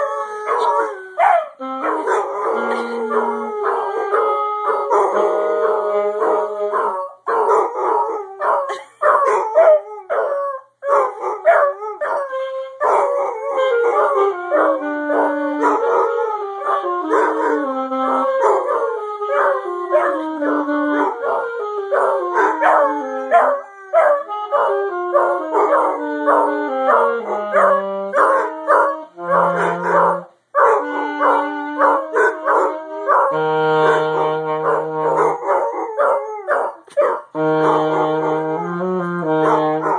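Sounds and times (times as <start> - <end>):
dog howling: 0.0 - 38.7
saxophone melody: 0.0 - 39.9.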